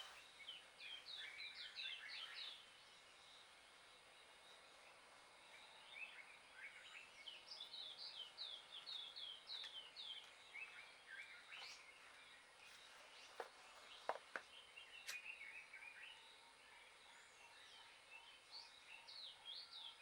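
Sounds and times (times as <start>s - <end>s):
bird singing faintly: 0.0s - 20.0s.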